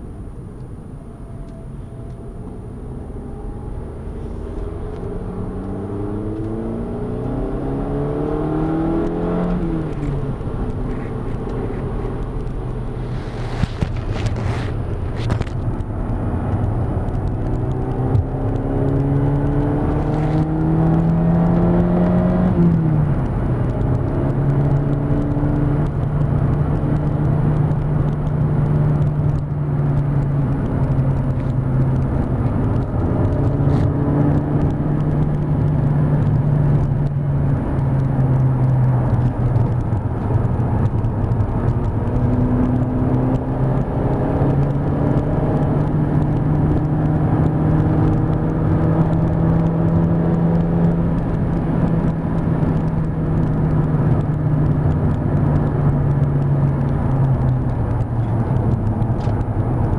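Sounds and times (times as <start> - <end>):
car engine revving: 1.0 - 59.9
tyre and wind noise: 2.9 - 59.9.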